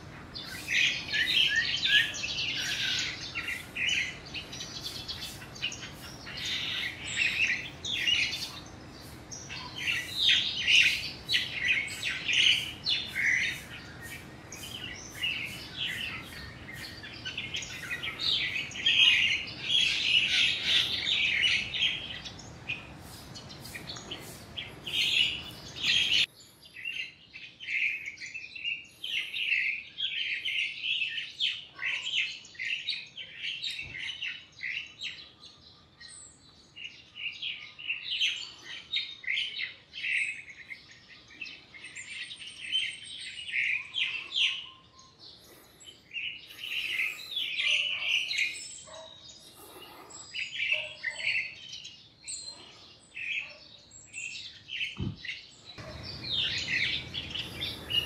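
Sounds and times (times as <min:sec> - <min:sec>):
bird chirping: 0:00.0 - 0:58.0.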